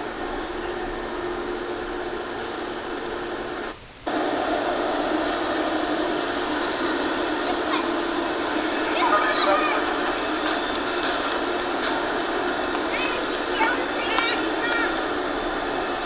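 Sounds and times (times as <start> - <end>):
train rolling past through tv speaker: 0.0 - 16.0.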